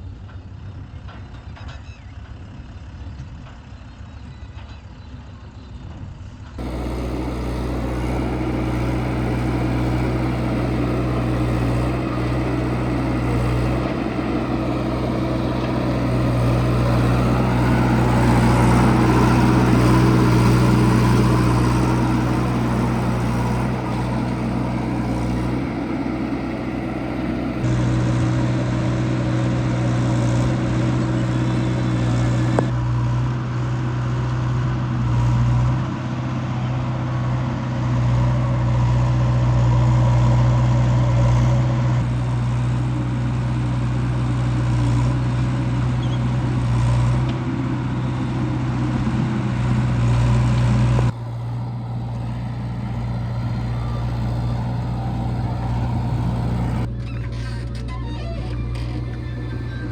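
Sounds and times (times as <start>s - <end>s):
heavy diesel engine running: 6.5s - 59.9s.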